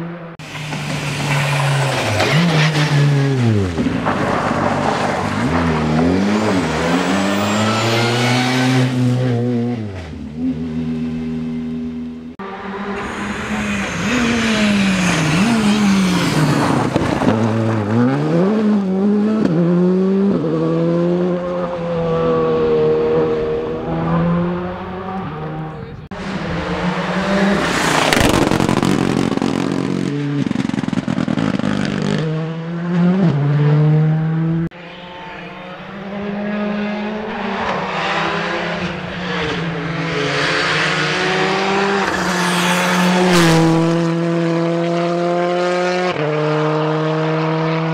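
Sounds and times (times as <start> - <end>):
car rushing past: 0.0 - 47.9
rally car engines revving: 0.0 - 47.9.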